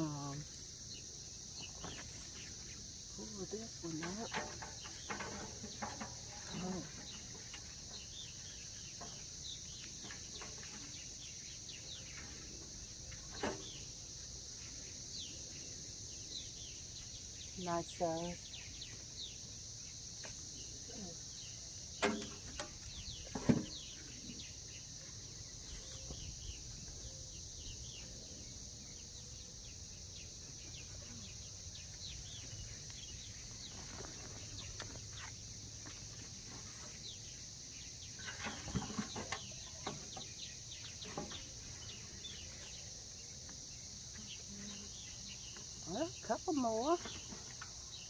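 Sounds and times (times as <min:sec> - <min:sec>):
high insect buzz: 0:00.0 - 0:48.0
rustling in soil: 0:00.0 - 0:48.0.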